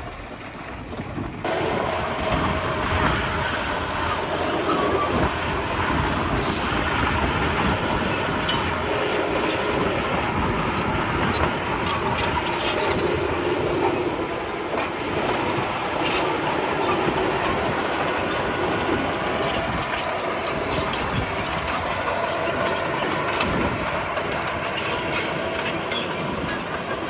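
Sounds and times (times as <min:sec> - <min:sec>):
diesel engine running: 0:00.0 - 0:27.0
steel tracks clattering: 0:00.0 - 0:27.0.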